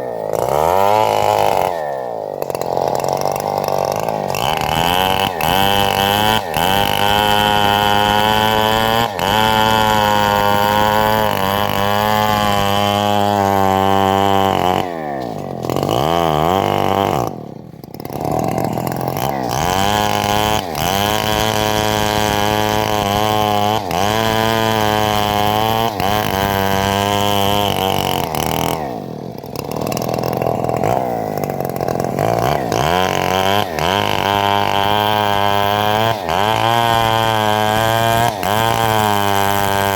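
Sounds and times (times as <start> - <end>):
sawmill engine revving while sawing: 0.0 - 39.9.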